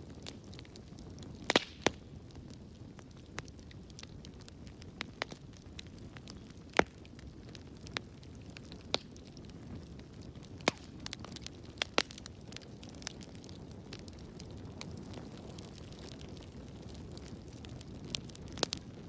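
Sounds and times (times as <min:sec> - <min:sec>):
fire crackles and pops: 0:00.0 - 0:19.0
fire low rumble: 0:00.0 - 0:19.0.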